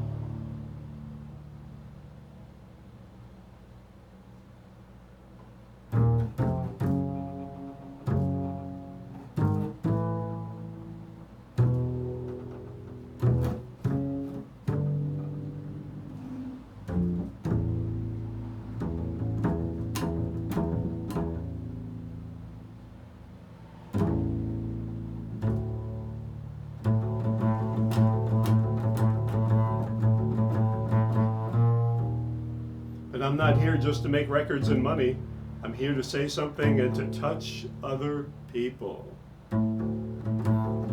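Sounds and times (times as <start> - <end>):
plucked low string instrument: 0.0 - 2.3, 5.9 - 40.9.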